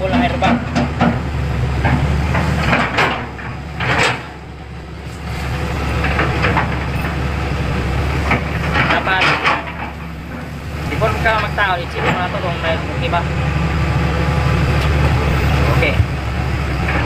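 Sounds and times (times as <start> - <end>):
low engine-like drone: 0.0 - 17.0.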